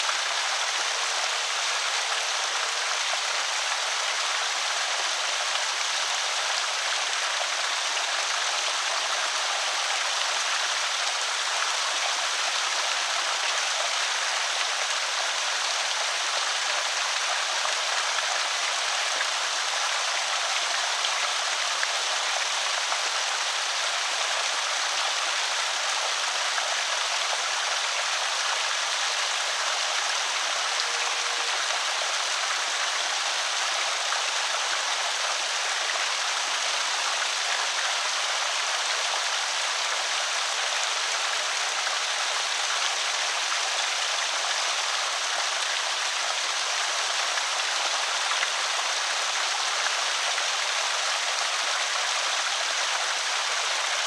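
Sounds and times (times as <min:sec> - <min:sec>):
water spilling over spillway: 0:00.0 - 0:54.0.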